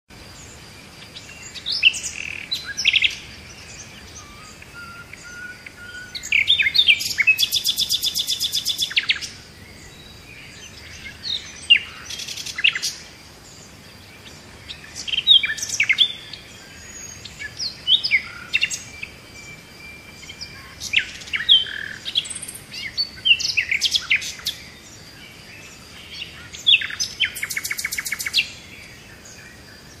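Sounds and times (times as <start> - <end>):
birds chirping and calling: 0.4 - 30.0.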